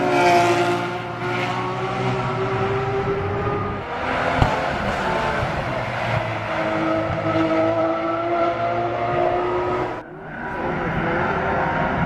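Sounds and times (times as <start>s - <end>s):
race car engine at high revs: 0.0s - 12.0s
second race car engine: 0.0s - 12.0s.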